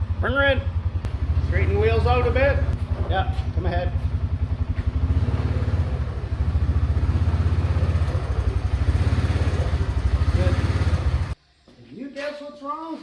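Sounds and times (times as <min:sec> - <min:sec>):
utility vehicle engine puttering: 0:00.0 - 0:11.4.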